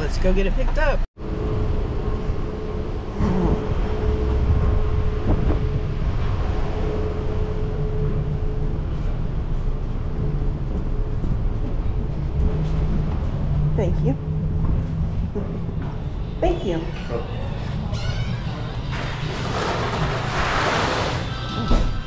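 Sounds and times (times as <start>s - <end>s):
low rumble of vehicles: 0.0s - 22.0s
steady hum: 1.2s - 22.0s.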